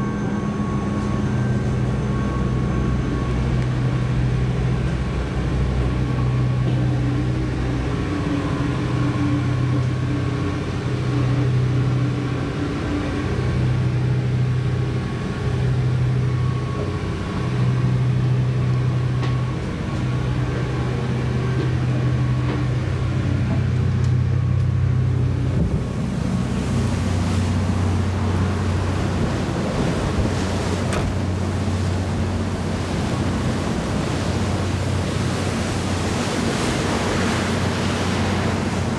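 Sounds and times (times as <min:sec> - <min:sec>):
boat engines droning: 0:00.0 - 0:38.9
rush of wind and water: 0:00.0 - 0:38.9.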